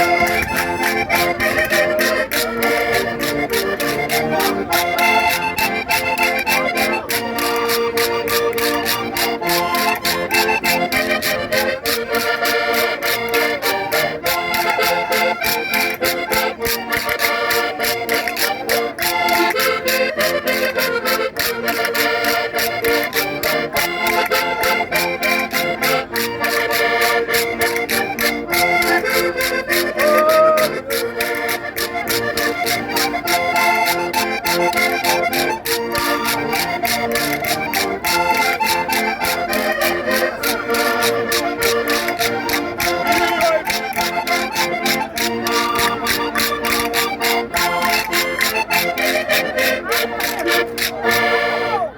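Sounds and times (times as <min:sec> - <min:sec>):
concertinas playing folk dance tune: 0:00.0 - 0:51.9
sharp rhythmic strikes: 0:00.0 - 0:51.9.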